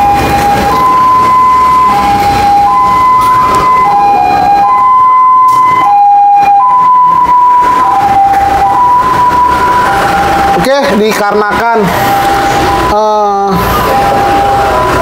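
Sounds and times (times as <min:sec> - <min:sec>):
two-tone electronic alarm: 0:00.0 - 0:15.0.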